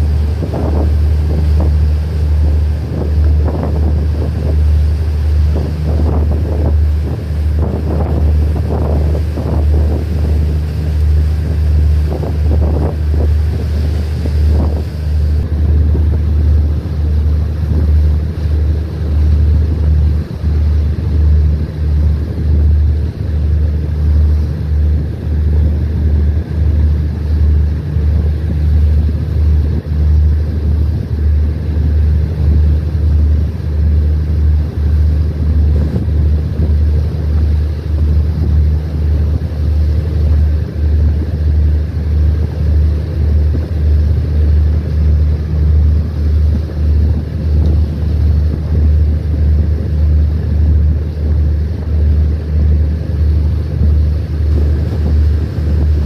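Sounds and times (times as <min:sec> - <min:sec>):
boat engine drone: 0:00.0 - 0:56.0
wind buffeting microphone: 0:00.0 - 0:56.0.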